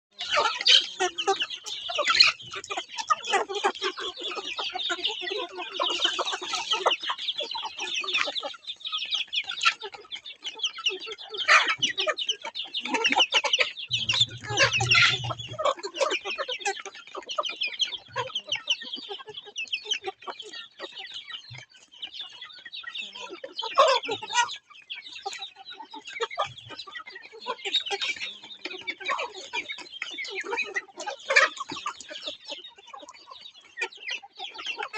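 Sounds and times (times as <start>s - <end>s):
chickens clucking and squawking: 0.1s - 34.9s.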